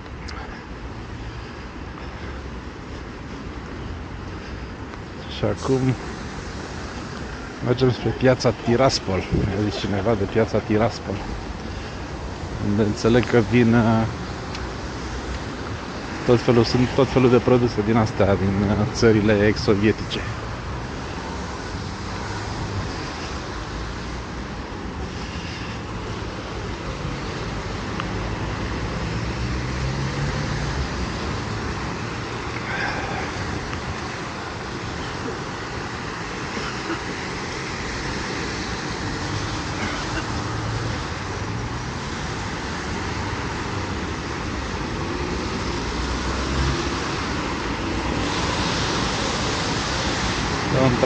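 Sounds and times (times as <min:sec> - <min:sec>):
passing engines humming: 0:00.0 - 0:51.0
tyres hissing on wet asphalt: 0:00.1 - 0:51.0.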